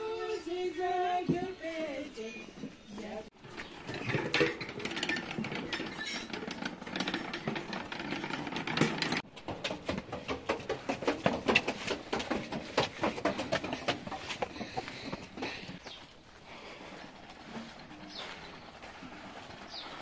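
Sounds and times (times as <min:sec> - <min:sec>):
metal prayer wheels clattering: 0:02.6 - 0:20.0.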